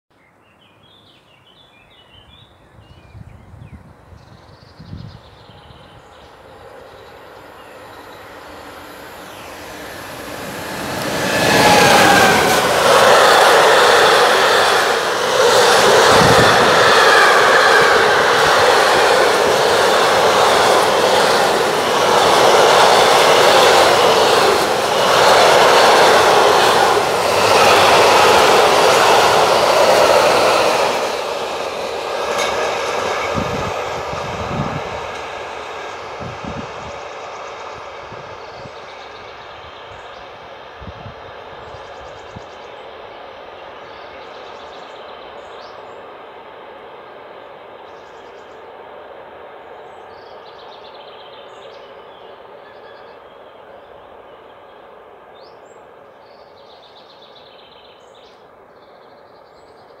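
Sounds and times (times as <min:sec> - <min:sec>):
freight train rolling on rails: 0:03.5 - 1:00.0.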